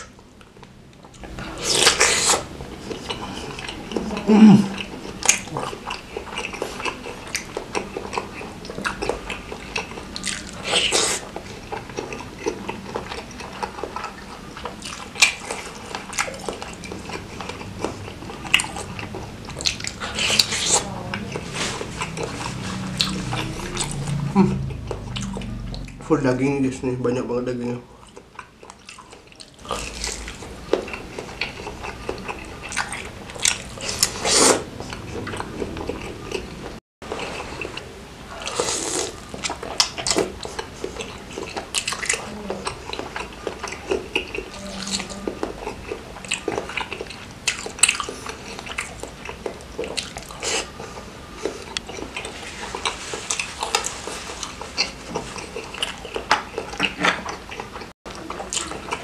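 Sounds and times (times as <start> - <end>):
man chewing food: 0.0 - 59.0.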